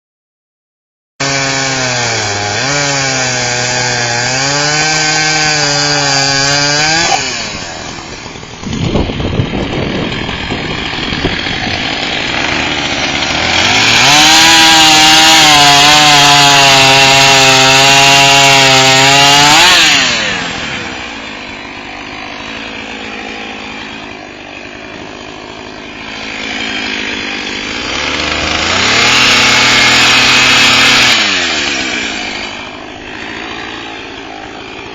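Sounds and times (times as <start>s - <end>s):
chainsaw revving and idling: 1.2s - 34.9s.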